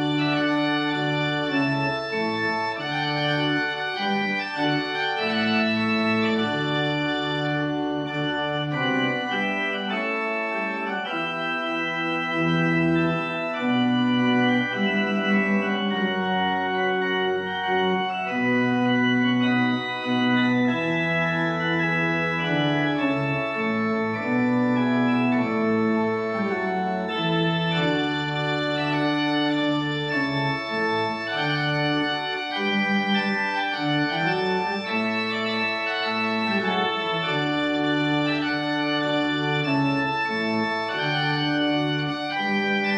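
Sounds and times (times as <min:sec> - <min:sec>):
church organ chords: 0:00.0 - 0:42.9.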